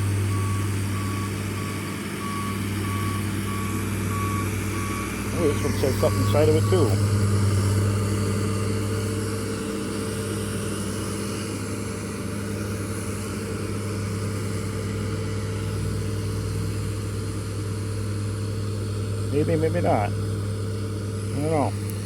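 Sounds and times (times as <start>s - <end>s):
construction machinery engine humming: 0.0s - 22.0s.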